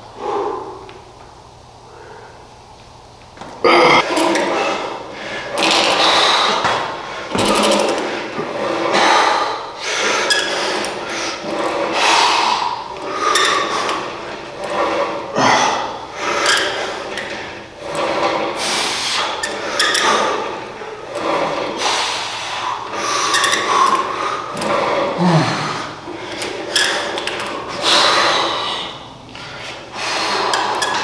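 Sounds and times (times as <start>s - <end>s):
cable rasping through pulleys: 4.0s - 31.0s.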